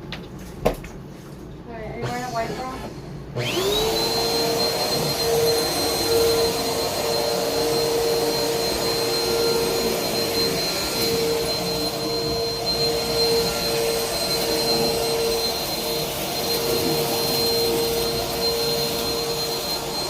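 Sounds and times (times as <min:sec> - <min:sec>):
vacuum cleaner running: 0:01.8 - 0:20.0.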